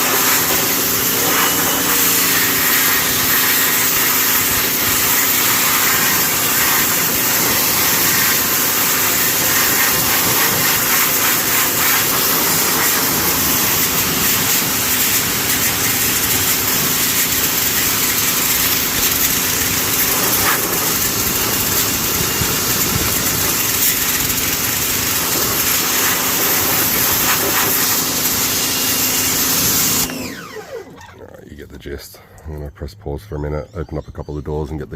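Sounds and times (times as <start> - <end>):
water jet hissing: 0.0 - 31.0
pressure washer motor hum: 0.0 - 31.4.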